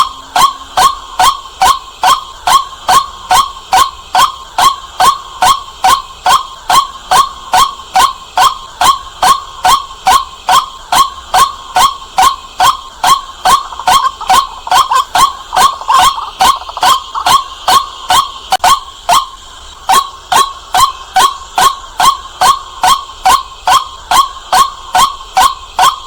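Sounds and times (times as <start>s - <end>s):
waterhen calling: 0.0s - 26.0s.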